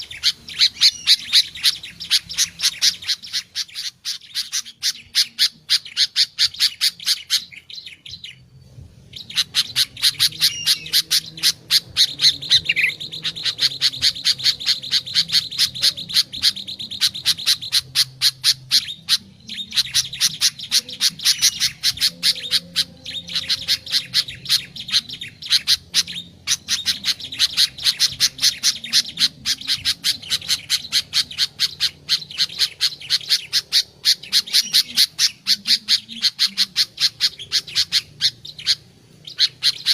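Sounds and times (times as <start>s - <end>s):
bird chirping rapidly: 0.0s - 8.5s, 9.1s - 39.9s.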